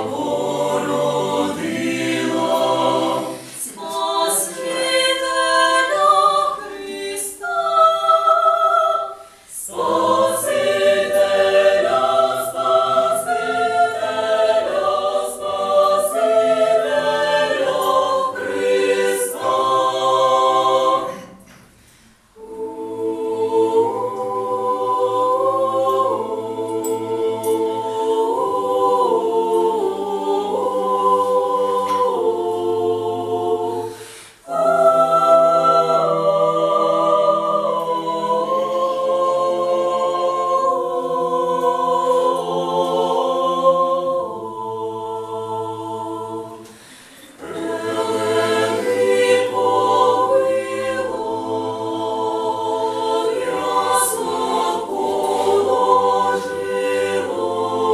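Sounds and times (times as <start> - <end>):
mixed choir singing unaccompanied: 0.0 - 21.7, 22.3 - 57.9.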